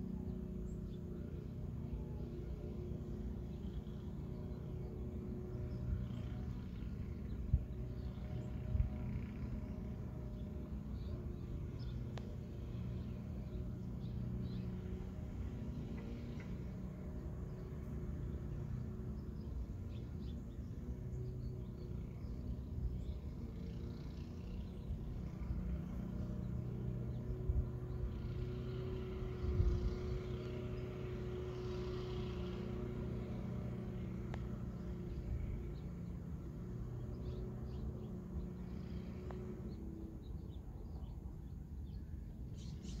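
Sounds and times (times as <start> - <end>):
faint motor hum: 0.0 - 43.0.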